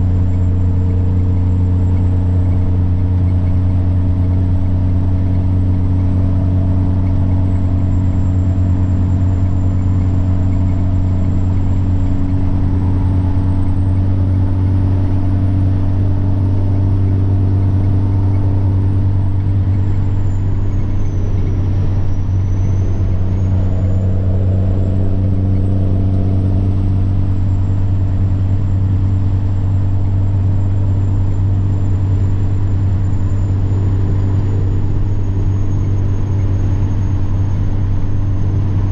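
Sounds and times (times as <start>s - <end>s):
diesel truck engine drone: 0.0s - 38.9s
turbocharger whine: 0.0s - 38.9s.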